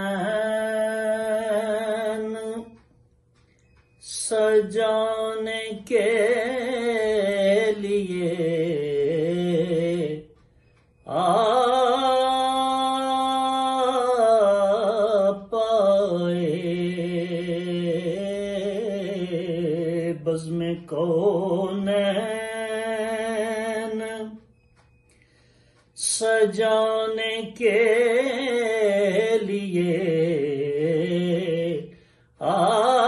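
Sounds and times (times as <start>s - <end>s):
man singing unaccompanied: 0.0s - 3.0s, 3.9s - 24.7s, 25.9s - 33.0s.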